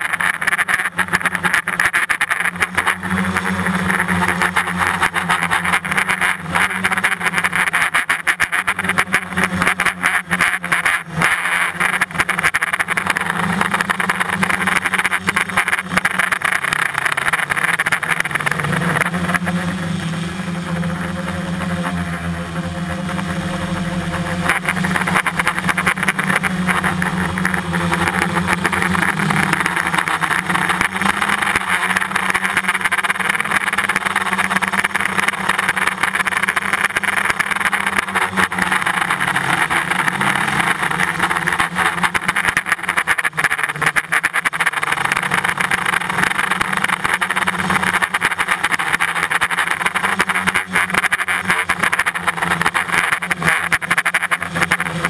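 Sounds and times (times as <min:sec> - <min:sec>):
drone propellers whirring: 0:00.0 - 0:55.0.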